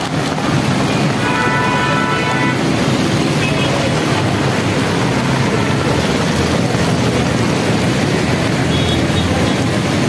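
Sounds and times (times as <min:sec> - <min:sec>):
heavy rain pouring: 0:00.0 - 0:10.0
traffic on wet road: 0:00.0 - 0:10.0.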